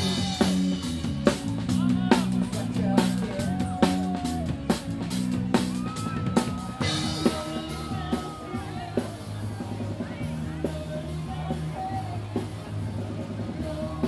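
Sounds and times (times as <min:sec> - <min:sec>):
drum beat: 0:00.0 - 0:12.5
rock music: 0:00.0 - 0:14.0.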